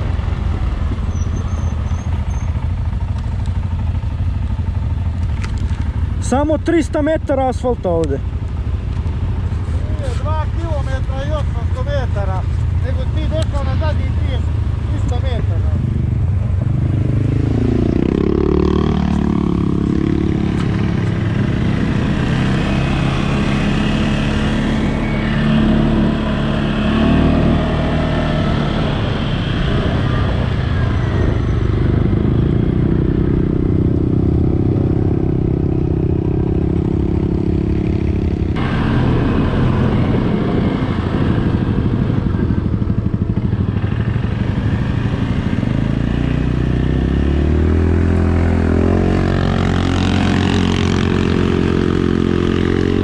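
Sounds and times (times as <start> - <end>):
atv engine accelerating: 8.0 - 53.0.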